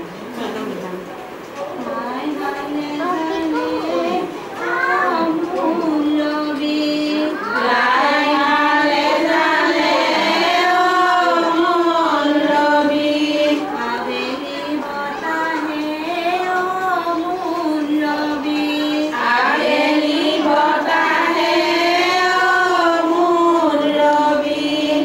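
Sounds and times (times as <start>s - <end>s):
women singing unaccompanied: 1.8s - 25.0s.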